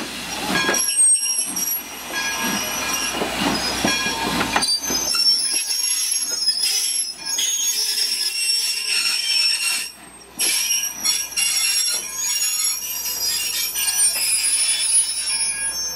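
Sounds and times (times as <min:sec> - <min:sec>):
train coaches rolling: 0:00.0 - 0:15.9
steel wheels squealing: 0:00.3 - 0:15.9.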